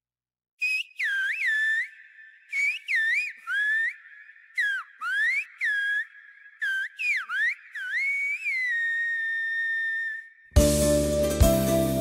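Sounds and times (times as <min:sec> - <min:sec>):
whistled phrases: 0:00.6 - 0:10.6.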